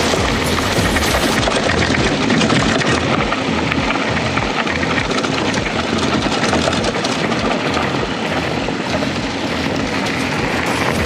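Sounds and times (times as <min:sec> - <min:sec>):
bike thumps and rattles: 0:00.0 - 0:11.0
wind on microphone: 0:00.0 - 0:11.0.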